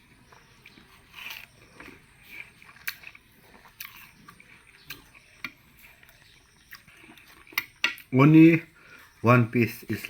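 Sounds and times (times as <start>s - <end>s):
person biting and chewing watermelon: 0.0s - 8.2s.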